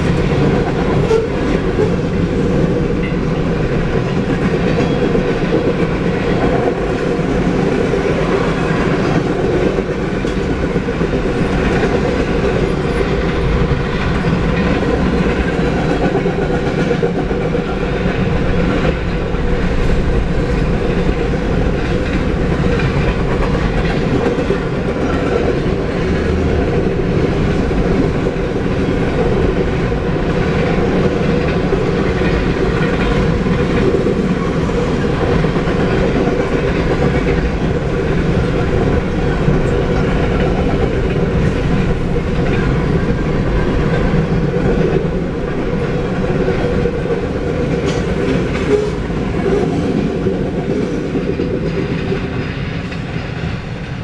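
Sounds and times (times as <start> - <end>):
steel wheels rumbling on rail: 0.0 - 54.0
wheels clacking over rail joints: 0.0 - 54.0.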